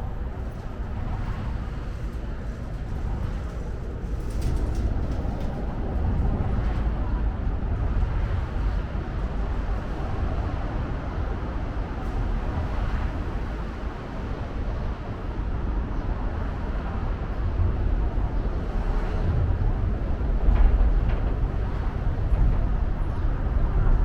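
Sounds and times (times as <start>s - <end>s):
city ambience low rumble: 0.0s - 24.0s.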